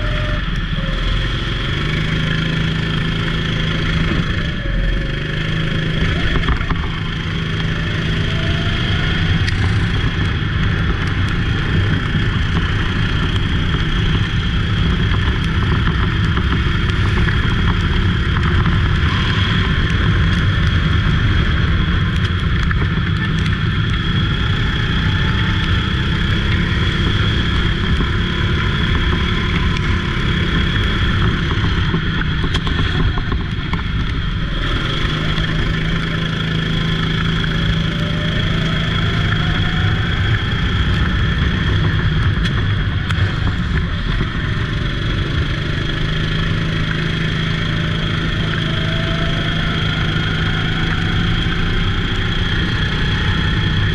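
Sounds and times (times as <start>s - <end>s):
go-kart engine running: 0.0s - 53.9s
high whine: 0.0s - 53.9s.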